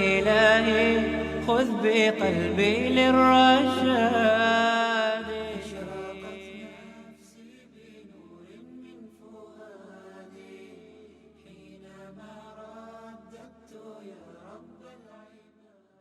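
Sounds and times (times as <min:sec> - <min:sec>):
wordless chanted voices: 0:00.0 - 0:15.9.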